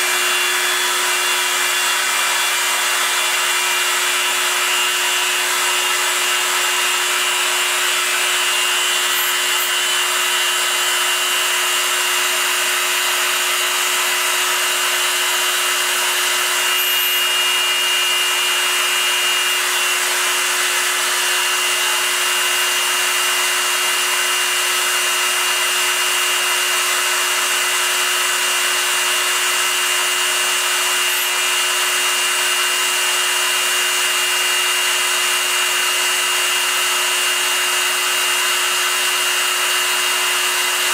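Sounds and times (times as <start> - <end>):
milling machine spindle whine: 0.0 - 40.9.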